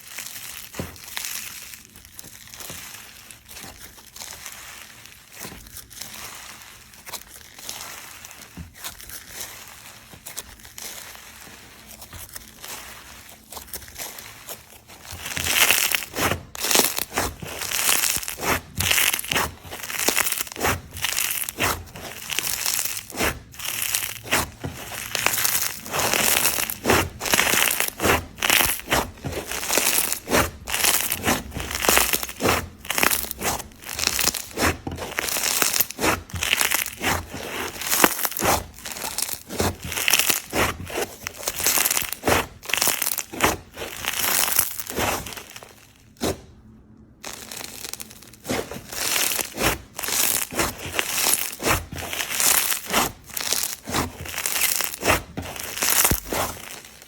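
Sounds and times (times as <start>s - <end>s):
slime crackling and crunching: 0.0s - 57.0s.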